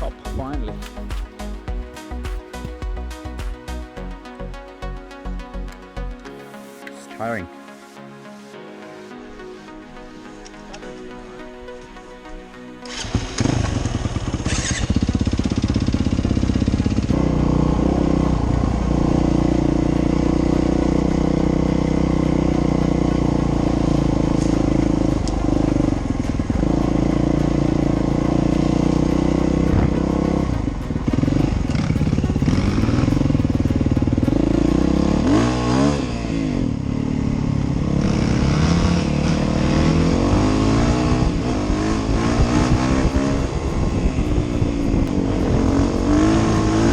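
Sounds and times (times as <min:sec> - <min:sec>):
dirt bike engine running: 0:00.0 - 0:03.8, 0:12.9 - 0:46.9.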